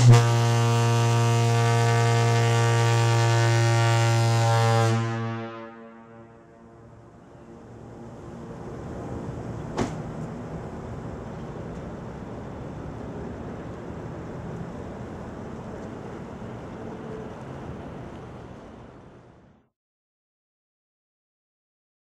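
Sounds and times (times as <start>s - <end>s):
street traffic rumble: 0.0s - 19.7s.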